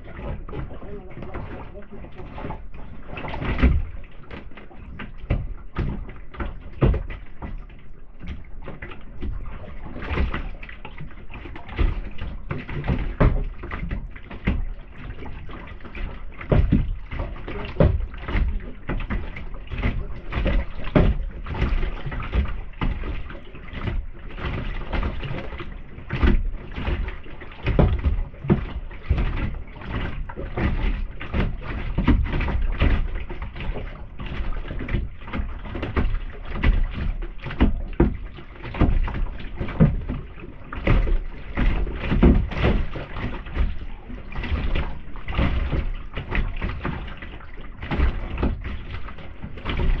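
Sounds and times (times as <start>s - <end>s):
paddle knocking on plastic hull: 0.0s - 50.0s
paddle splashing in water: 0.0s - 50.0s
water slapping boat: 0.0s - 50.0s.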